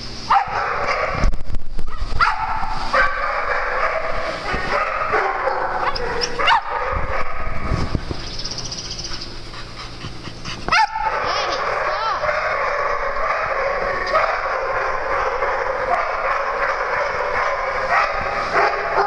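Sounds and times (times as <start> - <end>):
dogs barking and yipping: 0.2 - 1.3, 1.9 - 19.0.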